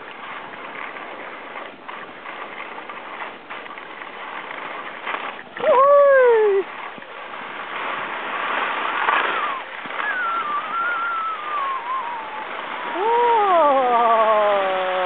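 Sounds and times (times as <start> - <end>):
skis hissing over snow: 0.1 - 15.0.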